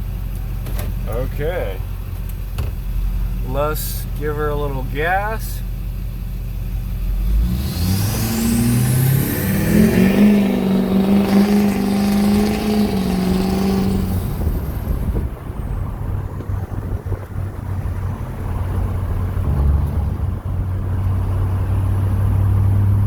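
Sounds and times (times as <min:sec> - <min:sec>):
diesel engine accelerating: 0:00.0 - 0:23.0.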